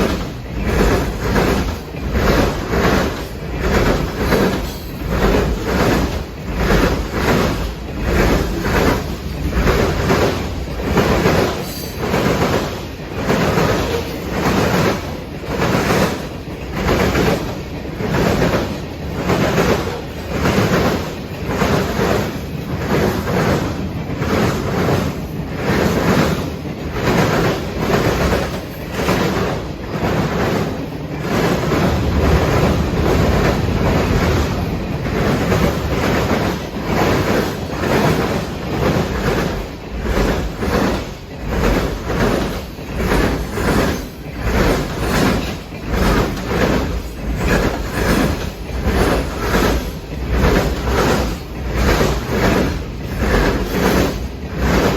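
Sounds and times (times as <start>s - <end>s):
train wheels clattering: 0.0s - 54.9s.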